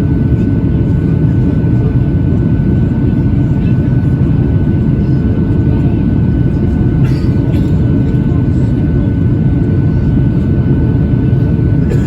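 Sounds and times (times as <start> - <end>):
airflow over fuselage: 0.0 - 12.0
jet engines roaring: 0.0 - 12.0.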